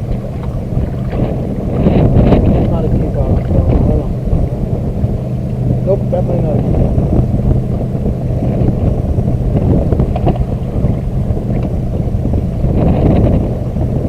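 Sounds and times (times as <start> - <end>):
steady low hum: 0.0 - 14.0
wind buffeting microphone: 0.0 - 14.0.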